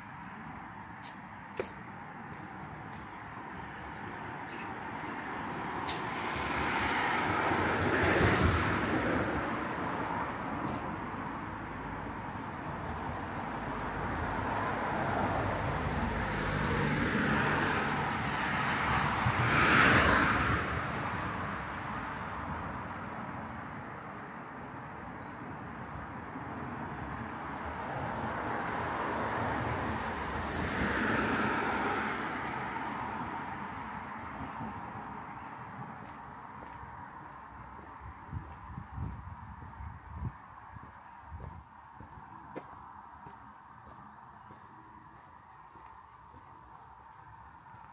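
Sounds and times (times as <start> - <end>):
cars passing: 0.0 - 47.9.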